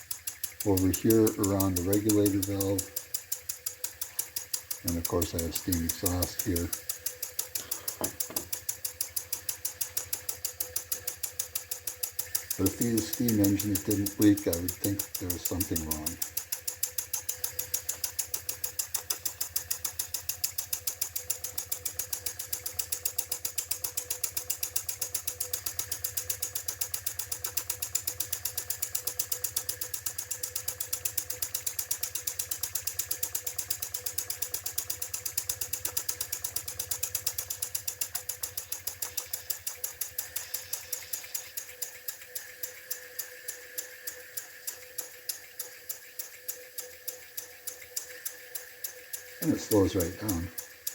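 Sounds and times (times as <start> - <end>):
mechanism clattering: 0.0 - 50.9
model steam engine chuffing: 0.0 - 50.9.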